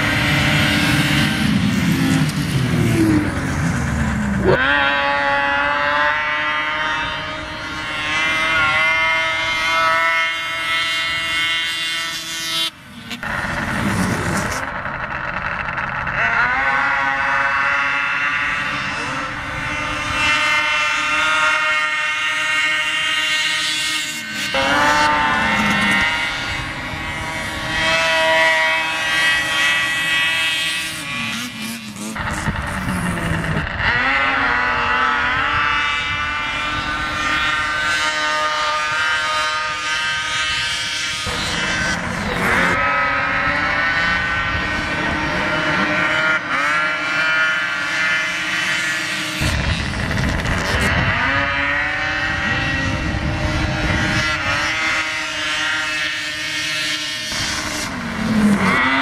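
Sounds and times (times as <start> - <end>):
snowmobile engines revving: 0.0 - 59.0.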